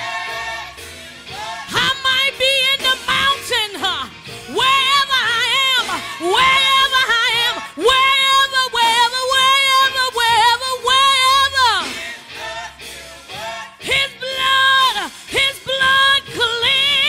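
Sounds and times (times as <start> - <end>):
woman singing gospel: 1.3 - 12.1, 13.6 - 17.0.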